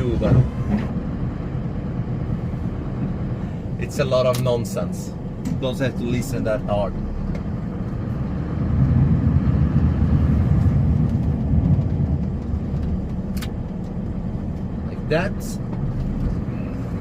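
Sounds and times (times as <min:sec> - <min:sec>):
snowplow engine running: 0:00.0 - 0:17.0.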